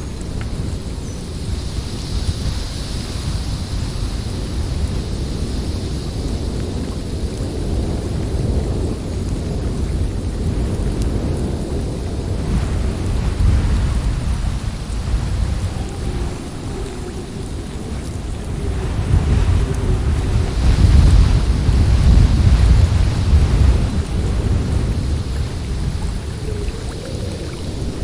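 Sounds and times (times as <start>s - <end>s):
snowstorm wind blowing: 0.0s - 28.0s.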